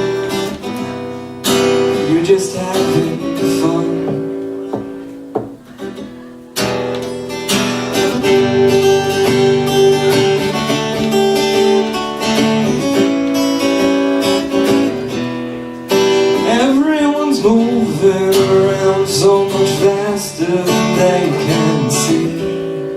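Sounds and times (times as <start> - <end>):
acoustic guitar strumming: 0.0 - 22.9.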